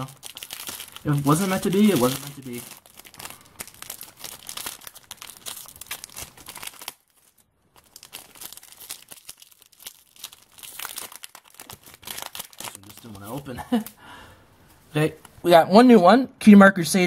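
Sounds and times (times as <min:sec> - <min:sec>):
wrapper tearing and crinkling: 0:00.0 - 0:13.9.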